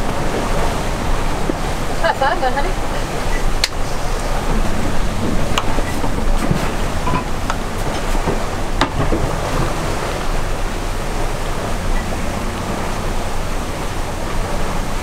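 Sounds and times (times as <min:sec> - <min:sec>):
wake hissing along hull: 0:00.0 - 0:15.0
wind buffeting microphone: 0:00.0 - 0:15.0.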